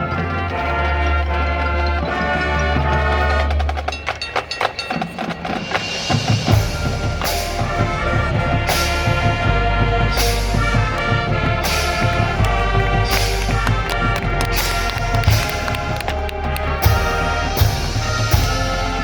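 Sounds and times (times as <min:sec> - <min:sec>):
marching band playing: 0:00.0 - 0:19.0
rapid percussion hits: 0:03.6 - 0:19.0.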